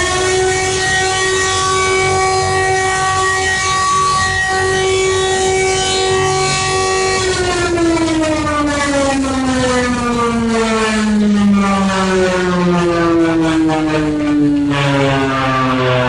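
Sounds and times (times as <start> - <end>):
emergency alert siren: 0.0 - 16.0.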